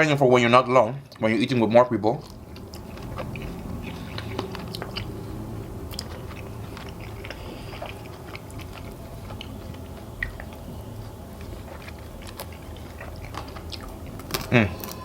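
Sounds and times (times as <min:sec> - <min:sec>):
person chewing chicken wings: 0:02.2 - 0:15.0.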